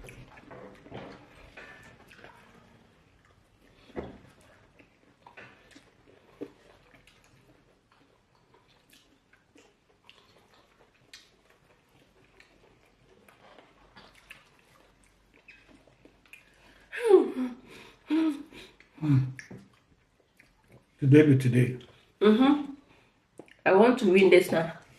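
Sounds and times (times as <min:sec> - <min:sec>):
chewing and wet mouth sounds: 0:00.0 - 0:16.9, 0:17.6 - 0:21.0, 0:21.8 - 0:24.9.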